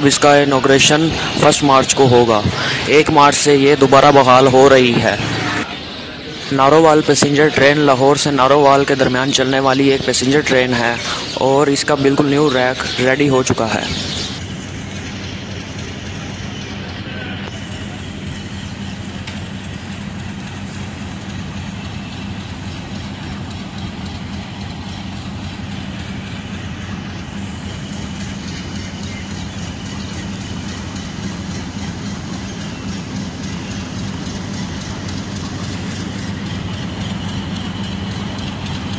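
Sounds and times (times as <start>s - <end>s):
continuous rumbling: 0.0s - 38.9s
train engine hum: 0.0s - 38.9s.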